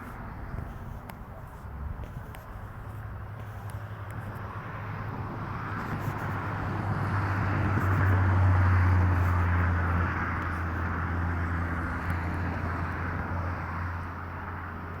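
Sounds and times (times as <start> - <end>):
distant engine hum: 0.0 - 15.0.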